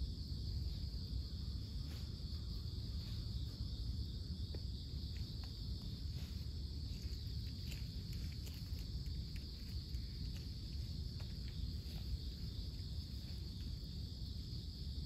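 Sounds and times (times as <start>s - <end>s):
insects chirring: 0.0s - 15.0s
low outdoor rumble: 0.0s - 15.0s.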